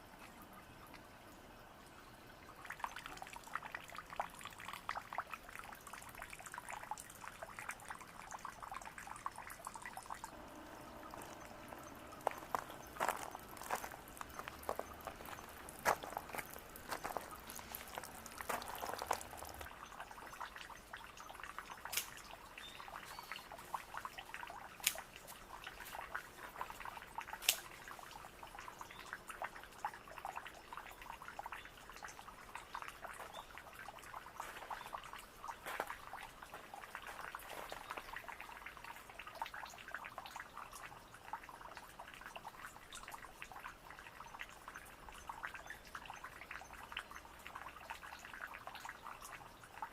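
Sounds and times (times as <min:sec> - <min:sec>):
waterfall trickling and splashing: 0:00.0 - 0:49.9.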